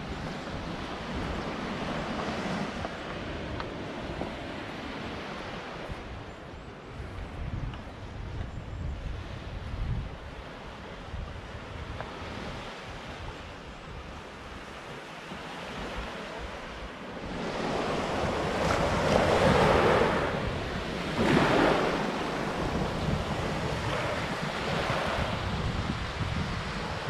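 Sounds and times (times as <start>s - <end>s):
sea waves breaking on shore: 0.0s - 8.4s, 9.0s - 27.0s
wind on microphone: 0.0s - 27.0s.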